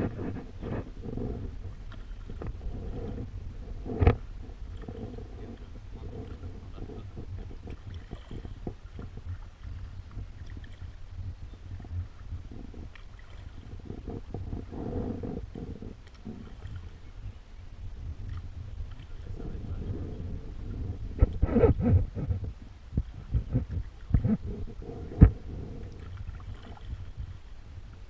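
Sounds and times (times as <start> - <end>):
paddle strokes: 0.0 - 28.0
steady low rumble: 0.0 - 28.0.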